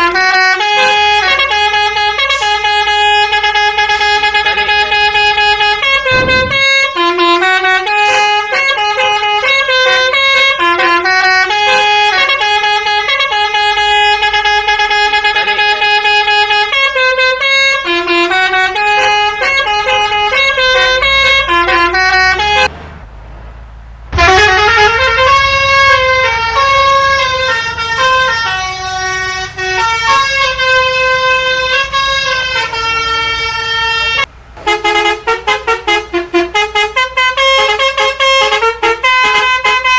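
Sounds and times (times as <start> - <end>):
musical bus horn playing chords: 0.0 - 22.7, 24.2 - 39.9.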